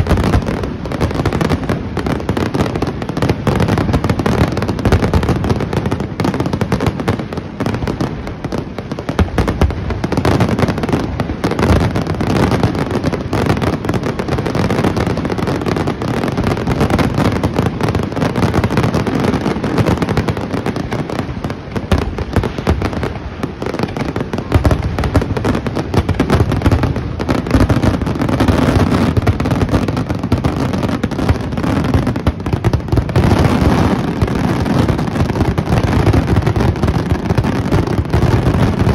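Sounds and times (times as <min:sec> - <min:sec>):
fireworks booming and crackling: 0:00.0 - 0:38.9.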